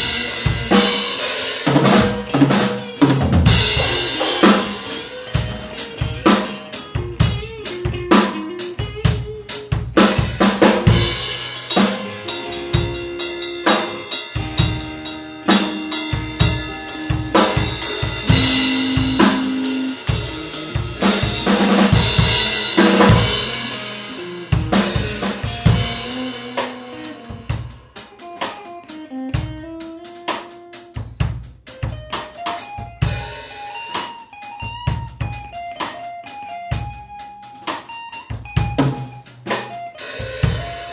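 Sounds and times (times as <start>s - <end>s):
drum kit groove: 0.0s - 40.9s
guitar melody: 0.0s - 40.9s.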